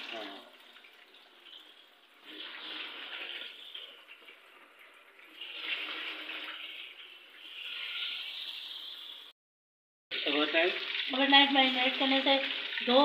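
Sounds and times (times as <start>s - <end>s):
hot oil sizzling: 0.0s - 9.4s, 10.1s - 13.0s.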